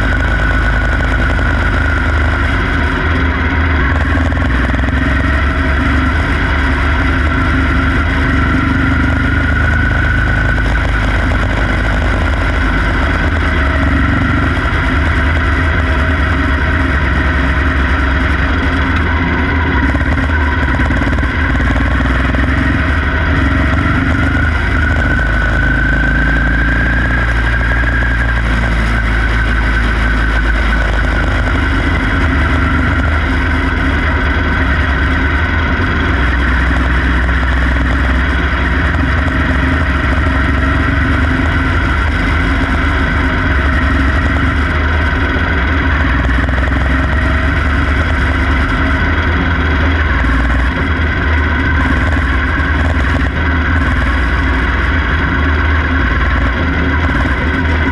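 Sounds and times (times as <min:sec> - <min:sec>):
small race car engine running hard: 0:00.0 - 0:57.9.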